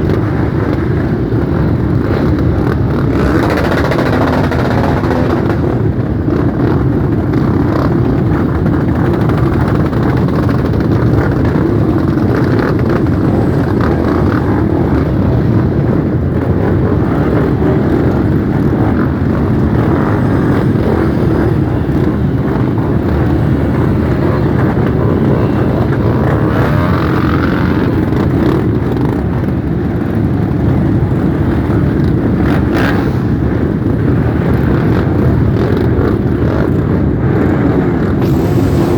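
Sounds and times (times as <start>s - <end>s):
motorcycle engines riding off: 0.0s - 38.9s.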